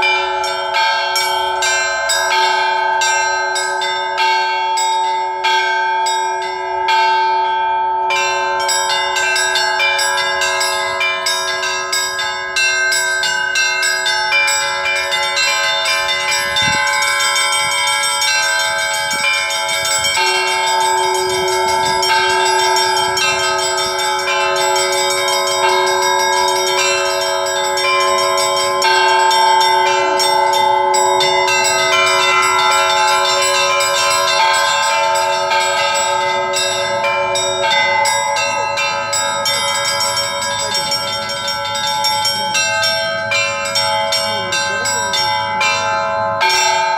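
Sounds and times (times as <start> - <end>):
large deep bells ringing: 0.0 - 46.9
small high-pitched bells: 0.0 - 46.9.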